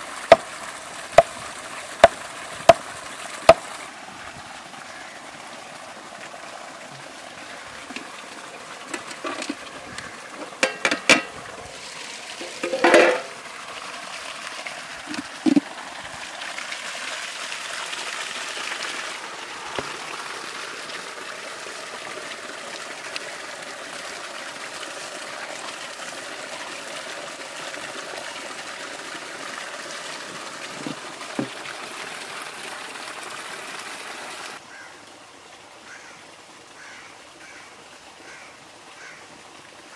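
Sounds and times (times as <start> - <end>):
water pouring and splashing: 0.0 - 34.6.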